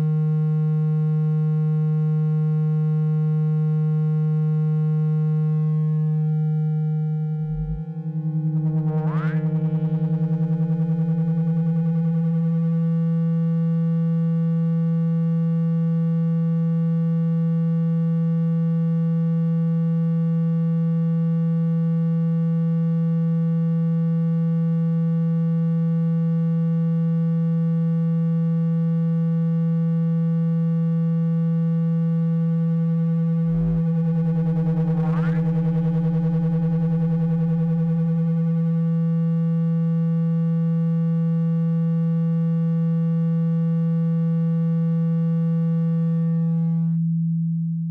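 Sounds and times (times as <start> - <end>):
low electronic buzzing tone: 0.0 - 47.9.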